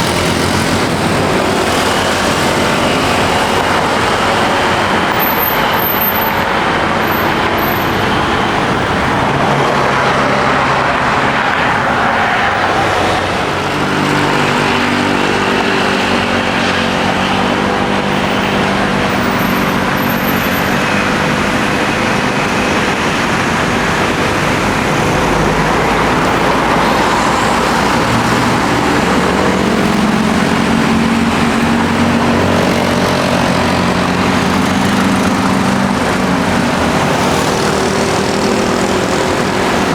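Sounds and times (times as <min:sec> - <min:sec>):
jet airliner engines running: 0:00.0 - 0:39.9.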